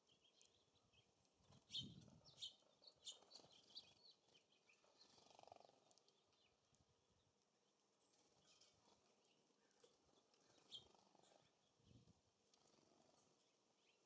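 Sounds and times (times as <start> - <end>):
small bird chirps: 0.0 - 14.0.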